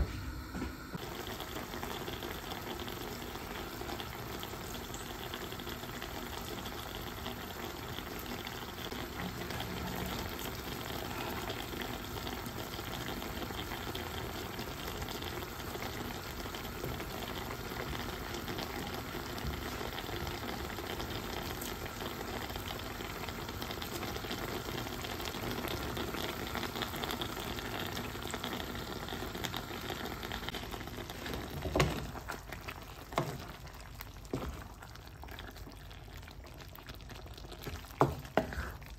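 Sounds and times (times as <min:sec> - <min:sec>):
food bubbling and sizzling in a wok: 0:00.4 - 0:38.9.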